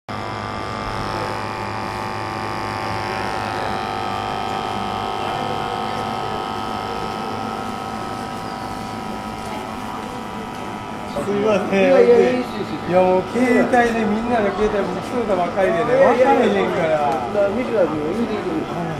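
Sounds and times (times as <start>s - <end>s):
machine hum: 0.1s - 18.9s.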